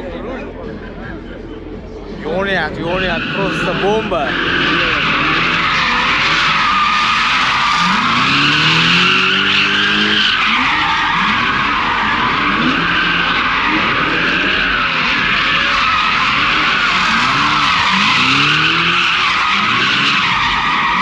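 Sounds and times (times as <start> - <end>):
car engine revving: 0.9 - 21.0.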